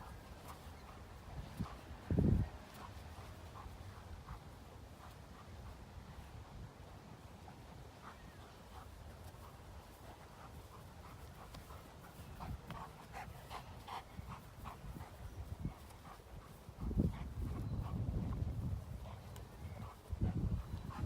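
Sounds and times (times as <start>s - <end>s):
dog panting: 0.0s - 6.6s, 7.2s - 21.0s.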